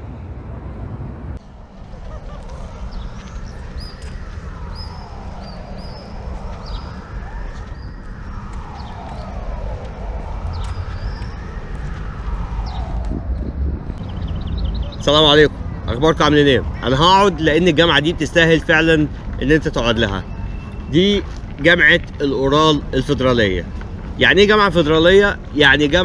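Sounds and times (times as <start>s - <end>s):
birds chirping: 0.0s - 26.0s
distant siren wailing: 0.0s - 26.0s
steady low rumble: 0.0s - 26.0s.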